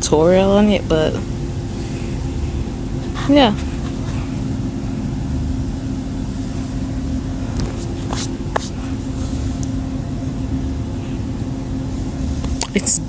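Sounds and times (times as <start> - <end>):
constant hum: 0.0 - 13.0
low motor rumble: 0.0 - 13.0.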